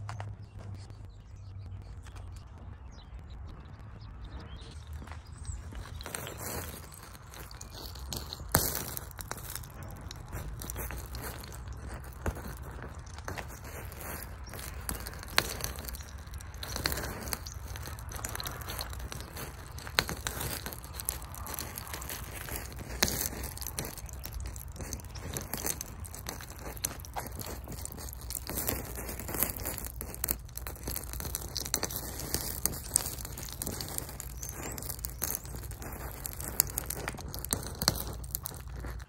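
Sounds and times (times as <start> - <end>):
wind rumble on microphone: 0.0 - 39.0
liquid burning with crackling hiss: 4.3 - 39.0.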